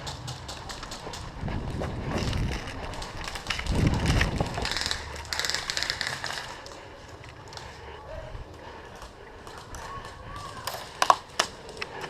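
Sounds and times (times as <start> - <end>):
wind rumbling on microphone: 0.0 - 10.6.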